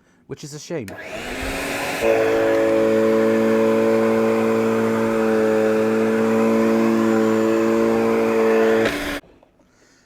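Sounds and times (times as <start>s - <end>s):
vacuum cleaner running: 0.9s - 9.2s.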